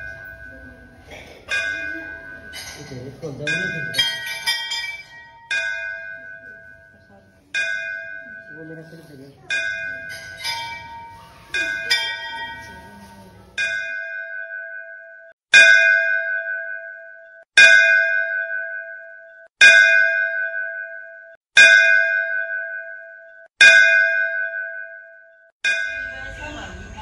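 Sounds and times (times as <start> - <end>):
temple bell ringing: 0.0 - 27.0.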